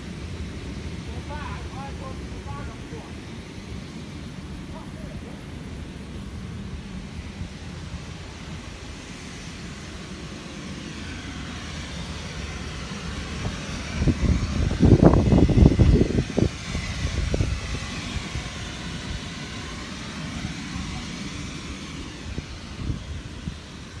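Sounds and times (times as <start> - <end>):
blower droning: 0.0 - 24.0
low buffeting: 0.0 - 24.0.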